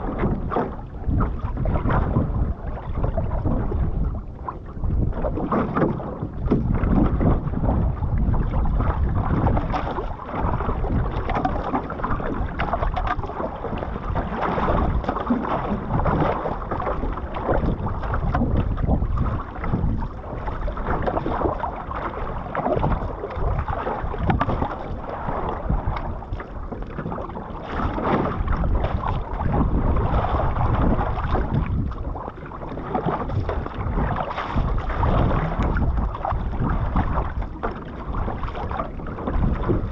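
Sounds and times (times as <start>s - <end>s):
paddle dipping into water: 0.0s - 39.9s
water splashing against canoe hull: 0.0s - 39.9s
wind buffeting microphone: 0.0s - 39.9s.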